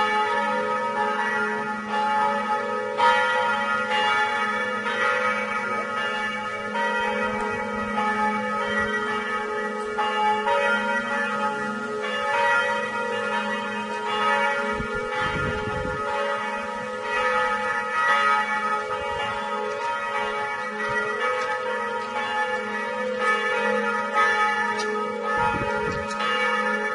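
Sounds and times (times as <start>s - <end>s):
church bells pealing: 0.0s - 26.9s.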